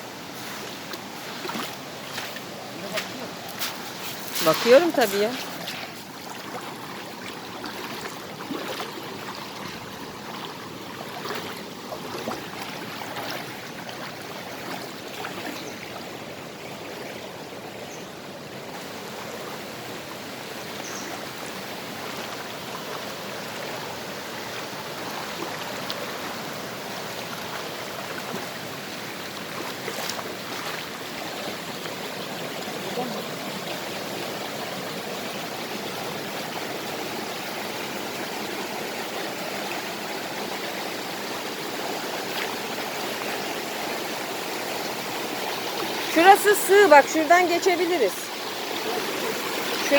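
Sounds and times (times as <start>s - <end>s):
stream flowing over stones: 0.0s - 49.9s.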